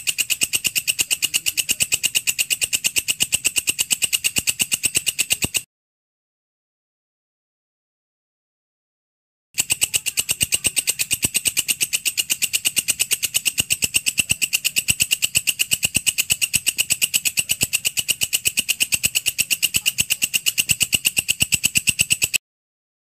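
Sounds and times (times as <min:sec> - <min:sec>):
insect high-pitched chirps: 0:00.0 - 0:05.6, 0:09.6 - 0:22.4.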